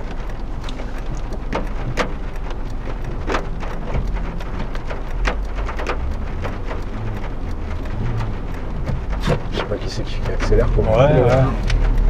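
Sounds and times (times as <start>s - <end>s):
low rumble of moving car: 0.0s - 12.0s
rain on car roof: 0.0s - 12.0s.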